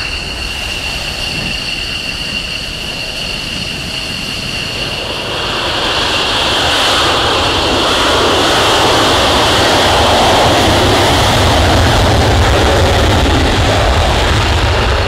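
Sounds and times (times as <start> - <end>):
jet engines whining and roaring: 0.0 - 15.0.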